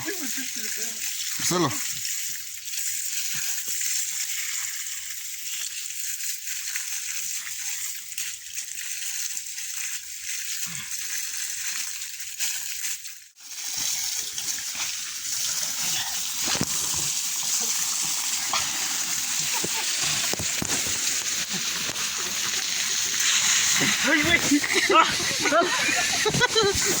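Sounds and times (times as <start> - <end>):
water spraying from pipe: 0.0 - 27.0.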